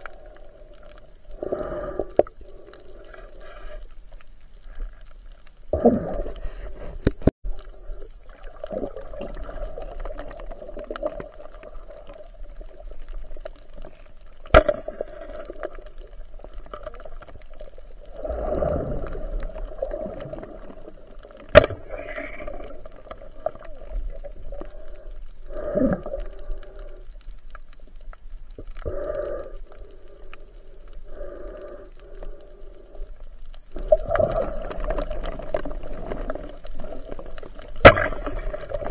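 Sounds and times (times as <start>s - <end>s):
underwater gurgling: 0.0s - 38.9s.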